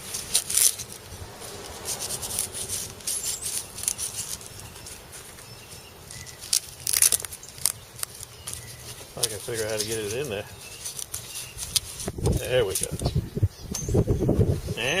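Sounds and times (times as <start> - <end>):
rustling of knife sheaths: 0.0 - 13.0.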